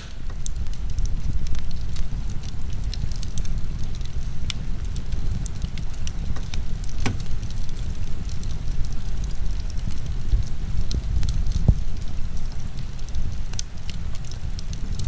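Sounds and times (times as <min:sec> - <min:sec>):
heavy rain rumble: 0:00.0 - 0:15.0
wood fire crackling and popping: 0:00.0 - 0:15.0.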